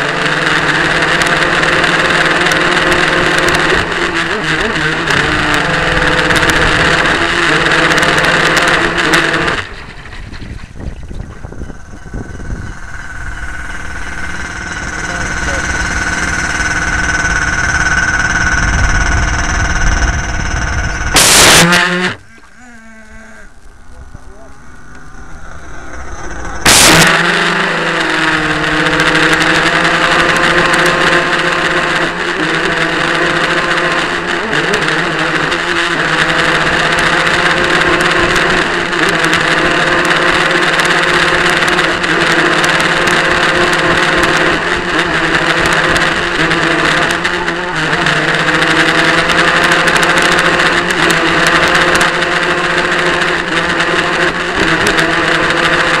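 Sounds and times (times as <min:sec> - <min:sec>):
model boat motor droning: 0:00.0 - 0:56.0.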